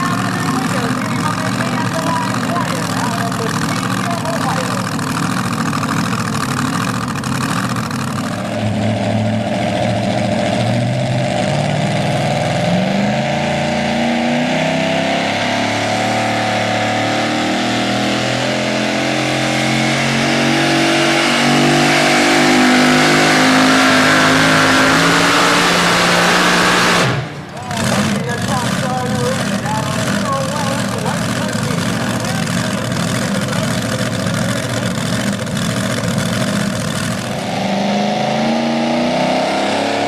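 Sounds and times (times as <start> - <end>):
truck engine revving hard: 0.0 - 40.0.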